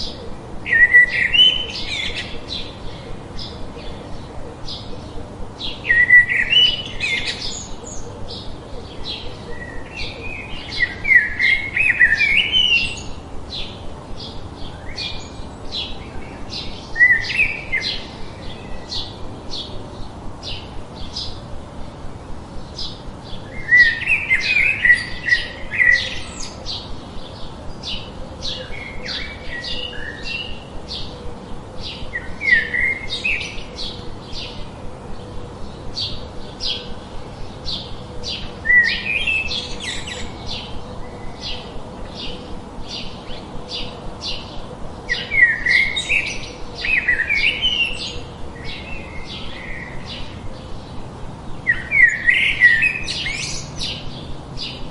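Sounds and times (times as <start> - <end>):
bird chirping: 0.0 - 21.8, 22.6 - 54.9
warbled bird song: 0.0 - 54.9.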